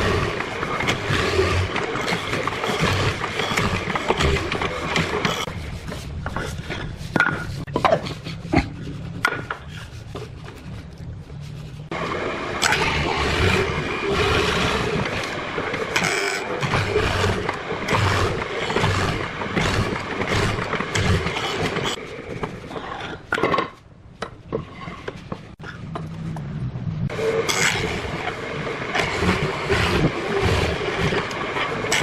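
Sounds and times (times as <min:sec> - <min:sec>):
tool scraping wood: 0:00.0 - 0:26.1, 0:27.1 - 0:32.0.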